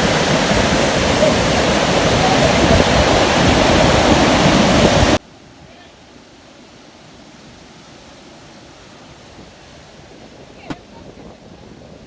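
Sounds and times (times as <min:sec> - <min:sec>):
sea surf: 0:00.0 - 0:12.0.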